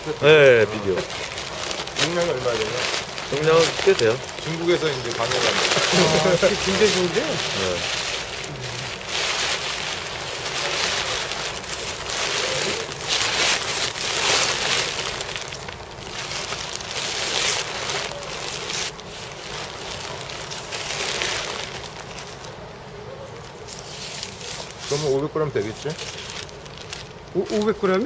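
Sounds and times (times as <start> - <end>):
plastic sack rustling: 0.0 - 28.0.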